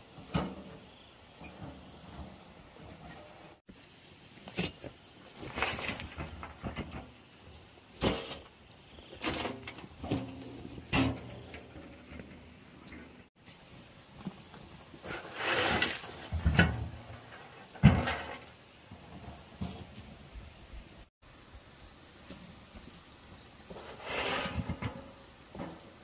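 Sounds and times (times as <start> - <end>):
soil thudding and scraping: 0.0 - 20.7, 22.2 - 26.0.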